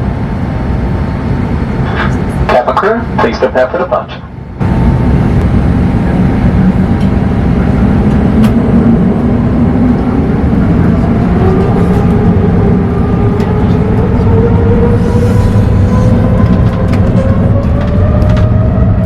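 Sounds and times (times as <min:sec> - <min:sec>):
airliner engines during takeoff roll: 0:00.0 - 0:19.0.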